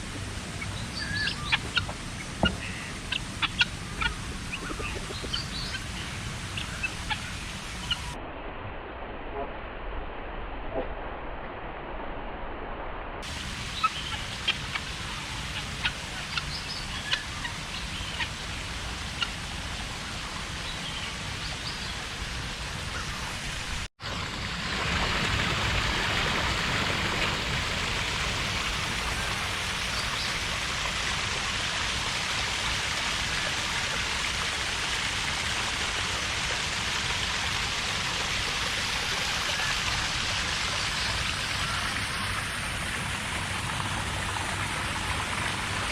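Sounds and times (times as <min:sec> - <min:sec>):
hiss of falling water: 0:00.0 - 0:08.2, 0:13.2 - 0:45.9.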